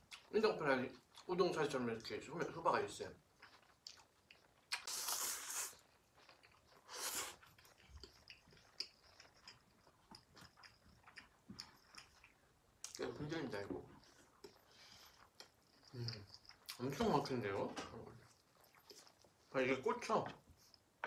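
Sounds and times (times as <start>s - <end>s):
chewing noodles: 3.1s - 21.0s.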